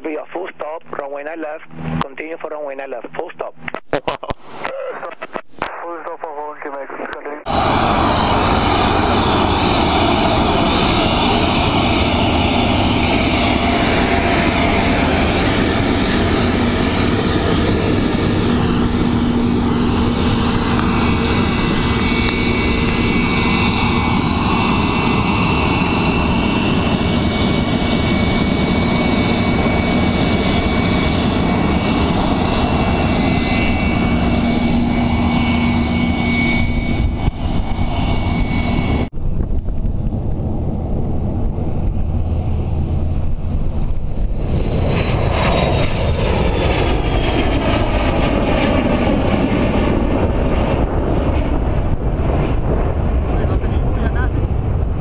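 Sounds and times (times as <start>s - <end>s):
light airplane engine and propeller: 0.0s - 55.0s.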